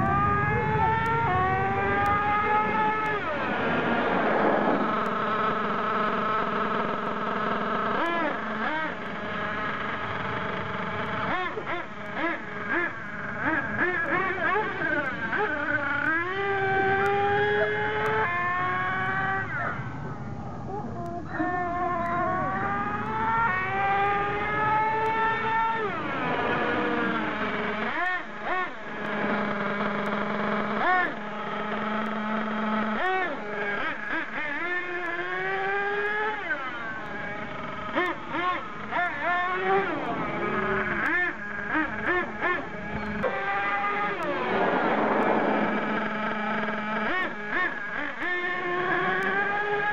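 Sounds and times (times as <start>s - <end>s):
engine revving: 0.0s - 49.9s
model engine idling with high buzz: 0.0s - 49.9s.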